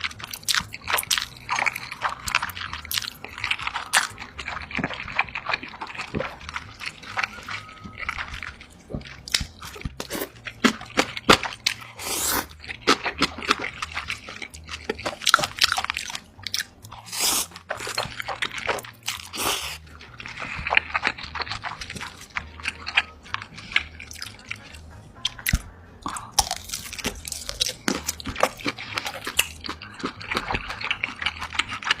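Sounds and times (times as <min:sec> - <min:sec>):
person chewing crunchy food: 0:00.0 - 0:32.0.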